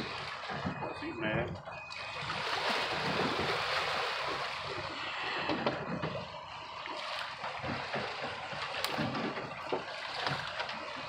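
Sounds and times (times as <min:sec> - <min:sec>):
river water rushing against boat: 0:00.0 - 0:01.3, 0:01.9 - 0:11.0.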